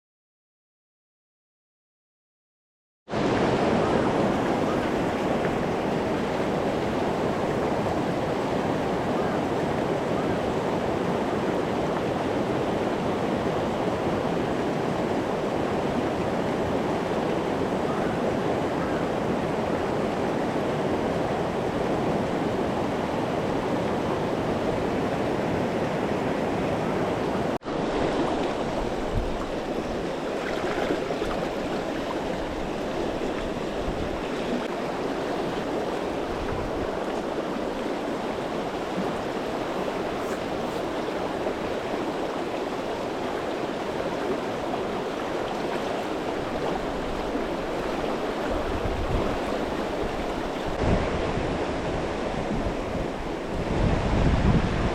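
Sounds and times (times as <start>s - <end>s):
river water rushing: 3.1s - 54.9s.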